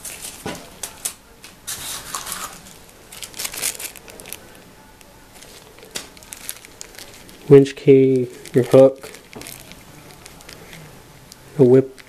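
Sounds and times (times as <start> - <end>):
plastic bags crinkling: 1.7 - 12.0.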